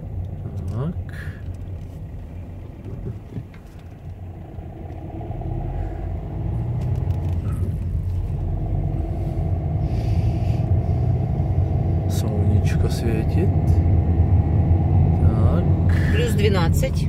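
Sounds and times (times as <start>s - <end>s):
car engine accelerating: 0.0s - 17.0s
road noise: 0.0s - 17.0s.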